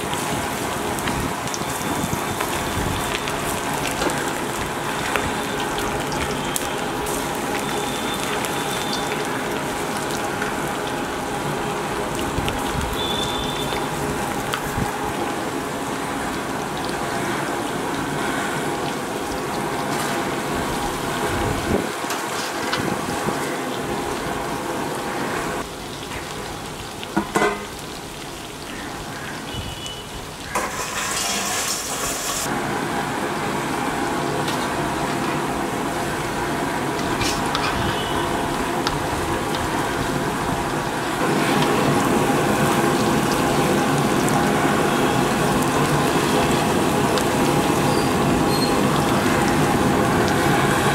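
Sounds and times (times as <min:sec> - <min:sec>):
food deep-frying in oil: 0:00.0 - 0:50.9.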